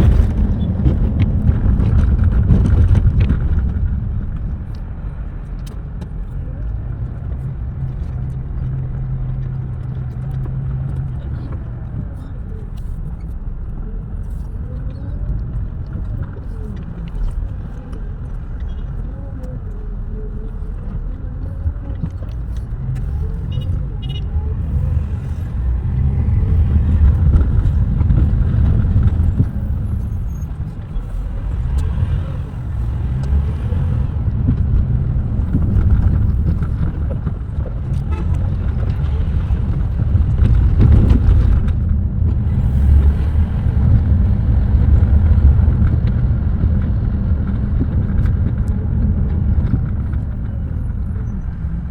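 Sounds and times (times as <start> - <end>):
bus engine and road noise: 0.0 - 51.9.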